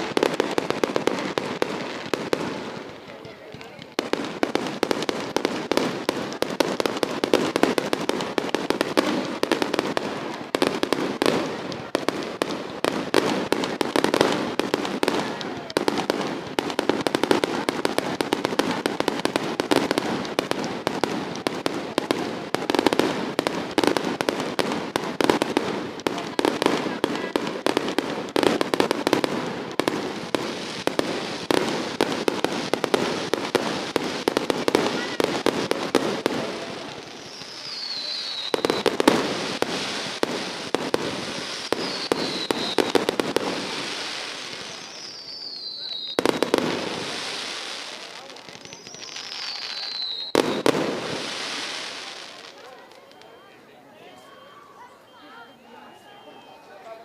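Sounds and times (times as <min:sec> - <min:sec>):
firecrackers crackling: 0:00.0 - 0:56.5.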